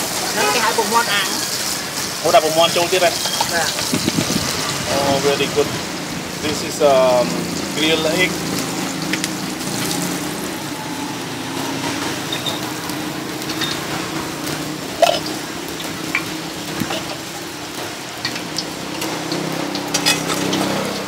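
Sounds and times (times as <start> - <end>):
grill hiss and hum: 0.0 - 21.0.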